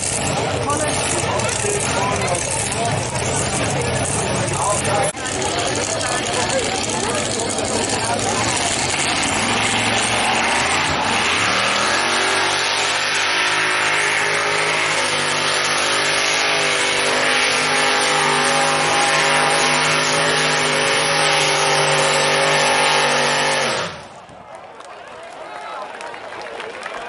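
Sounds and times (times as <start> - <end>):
racing engine revving: 0.0 - 24.2.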